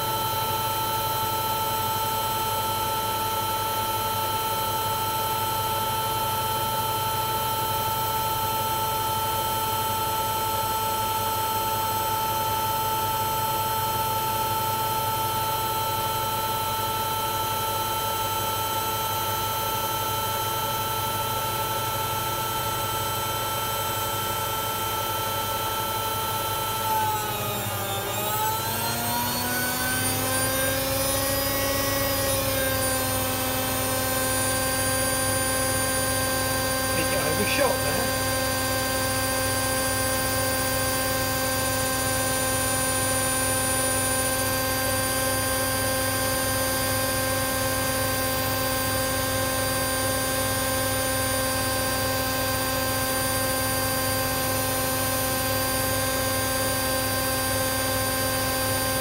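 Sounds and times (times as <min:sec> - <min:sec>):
washing machine spin whine: 0:00.0 - 0:59.0.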